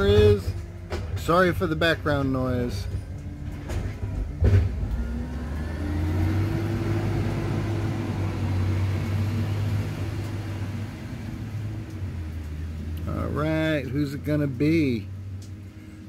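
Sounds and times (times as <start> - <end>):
motor vehicle hum: 0.0 - 16.0.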